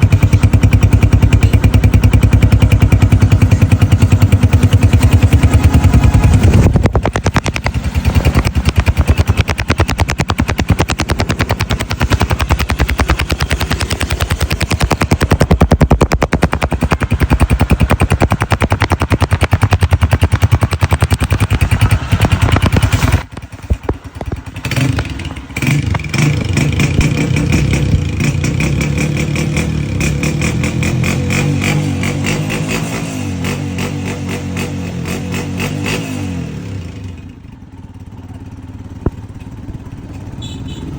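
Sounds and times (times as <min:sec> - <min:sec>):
motorcycle engine running fast: 0:00.0 - 0:40.9.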